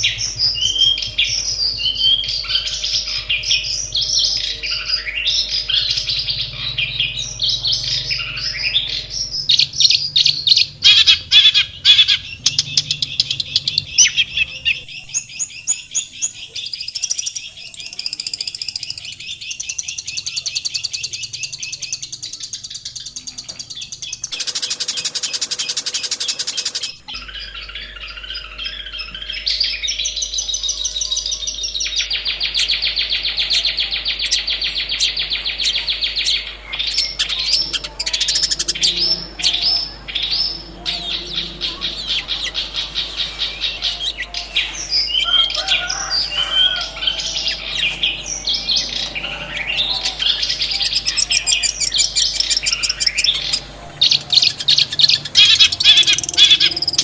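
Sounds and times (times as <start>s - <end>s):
bird singing chattering song: 0.0s - 57.0s.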